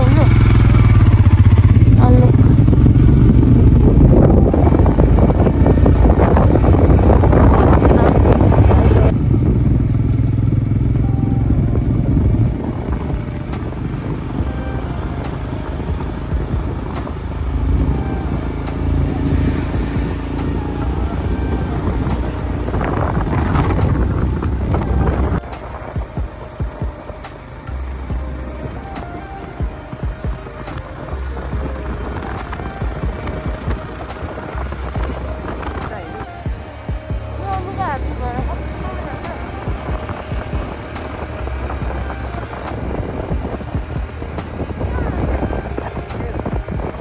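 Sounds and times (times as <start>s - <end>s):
motorcycle engine rumbling: 0.0s - 47.0s
road and wind noise: 0.0s - 47.0s.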